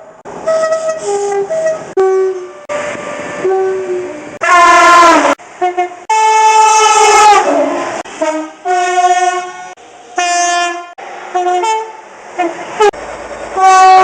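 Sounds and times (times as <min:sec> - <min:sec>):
train two-tone air horn blasts: 0:00.4 - 0:13.0, 0:13.6 - 0:14.0.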